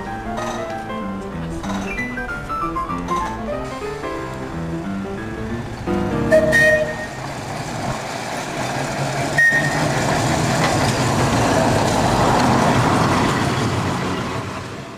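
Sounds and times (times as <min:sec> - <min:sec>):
tram humming: 0:00.0 - 0:14.9
wheels rumbling on rails: 0:00.0 - 0:14.9.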